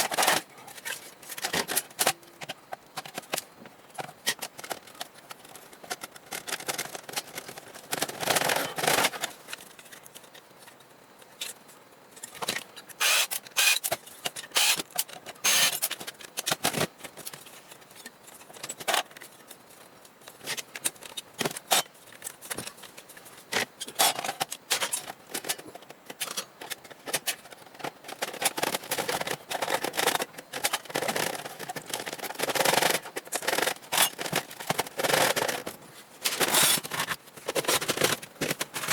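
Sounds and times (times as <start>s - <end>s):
metal and plastic parts clattering: 0.0s - 10.4s, 12.2s - 19.5s, 20.3s - 38.9s.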